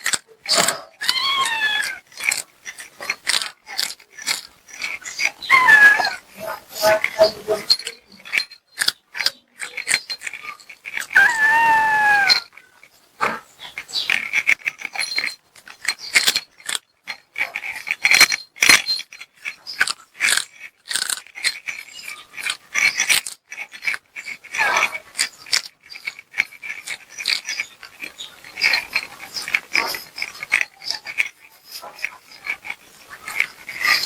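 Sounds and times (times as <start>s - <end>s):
cat chewing: 0.0s - 13.0s, 13.6s - 34.0s.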